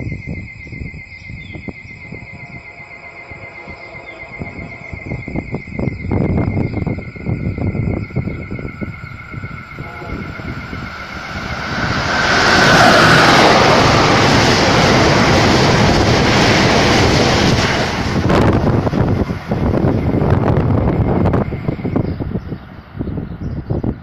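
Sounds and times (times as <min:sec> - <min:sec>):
train passing at speed: 0:00.0 - 0:24.0
wind gusts on microphone: 0:00.0 - 0:24.0.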